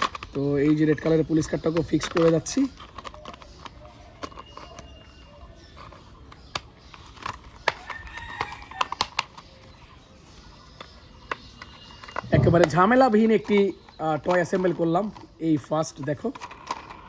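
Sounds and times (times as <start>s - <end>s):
plastic toy parts clicking: 0.0s - 9.6s, 10.7s - 17.0s.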